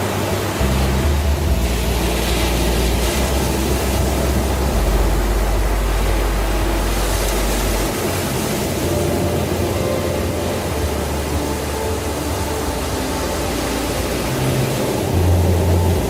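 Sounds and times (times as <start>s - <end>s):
ambient pad music: 0.0s - 16.0s.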